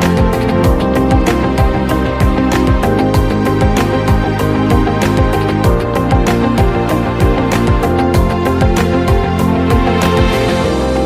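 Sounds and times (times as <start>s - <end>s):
music with deep drum beat: 0.0s - 11.0s.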